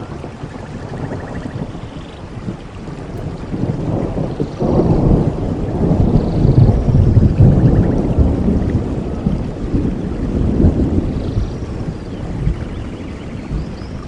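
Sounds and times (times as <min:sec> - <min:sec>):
rain: 0:00.0 - 0:14.0
rolling thunder: 0:00.0 - 0:14.0.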